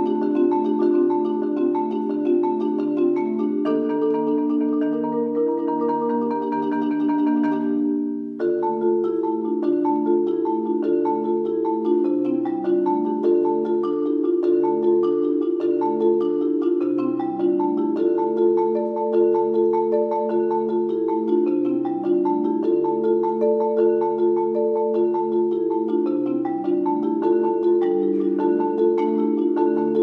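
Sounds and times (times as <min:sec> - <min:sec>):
solo marimba: 0:00.0 - 0:30.0.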